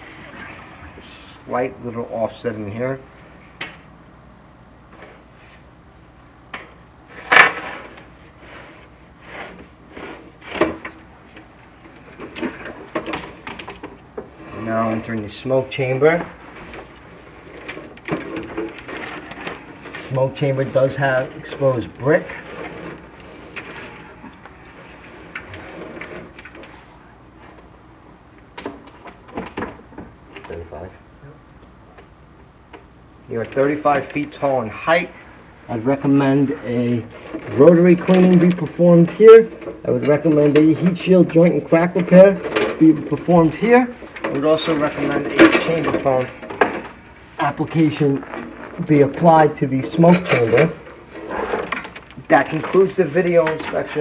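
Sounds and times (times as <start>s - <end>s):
faint background noise: 0.0s - 54.0s.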